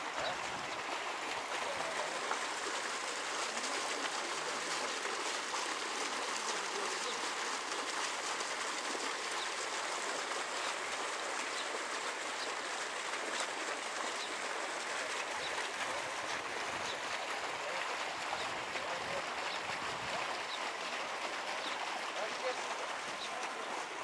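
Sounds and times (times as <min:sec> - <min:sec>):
water splashing into pond: 0:00.0 - 0:24.0.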